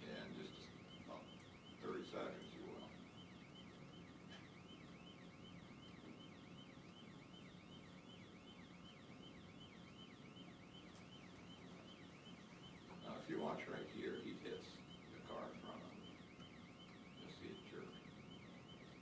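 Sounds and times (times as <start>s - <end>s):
faint police siren yelping: 0.0s - 19.0s.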